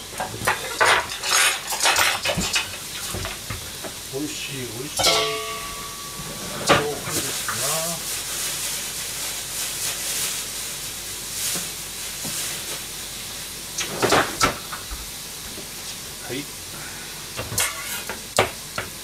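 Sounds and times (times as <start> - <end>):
liquid sizzling in frying pan: 0.0 - 19.0.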